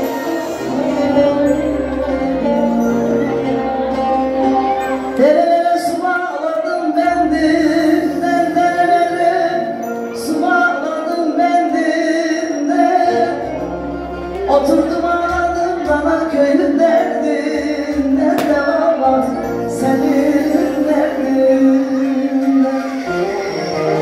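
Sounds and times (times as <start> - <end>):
instrumental backing music: 0.0 - 24.0.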